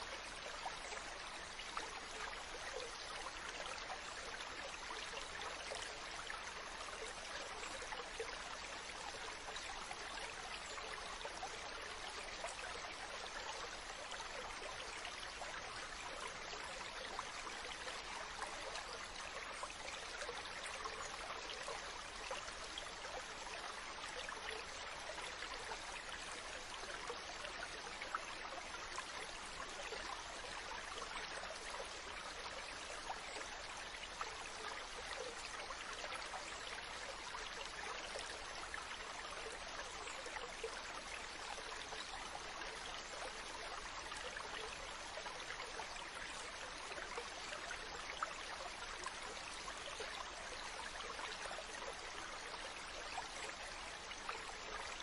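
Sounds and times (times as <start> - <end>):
water flowing and babbling: 0.0 - 55.0.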